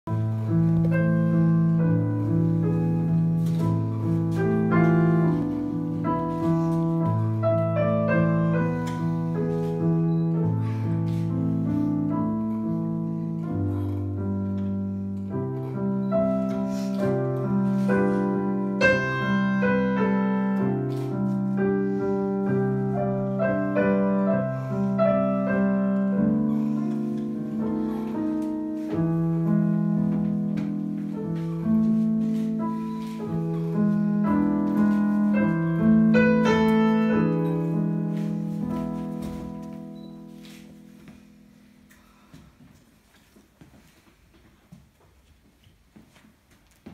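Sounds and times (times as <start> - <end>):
piano playing chords: 0.0 - 42.3.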